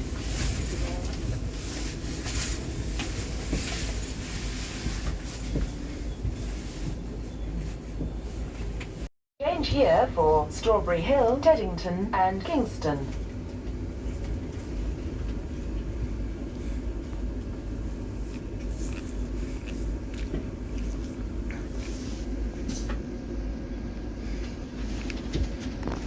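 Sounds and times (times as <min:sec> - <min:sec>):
train carriage rumble and hiss: 0:00.0 - 0:26.0.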